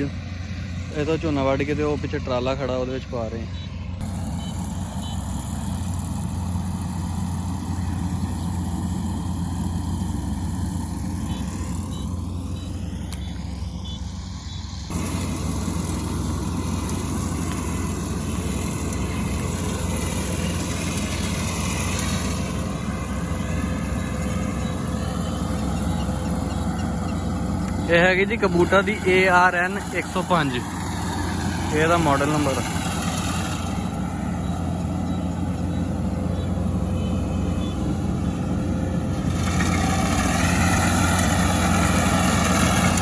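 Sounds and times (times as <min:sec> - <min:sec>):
combine harvester diesel engine: 0:00.0 - 0:43.0.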